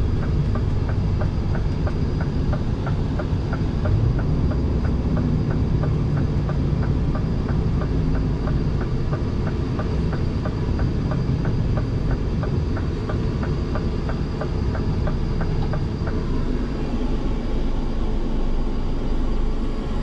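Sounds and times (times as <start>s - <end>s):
diesel truck engine rumble: 0.0s - 20.0s
light regular ticking: 0.1s - 16.4s.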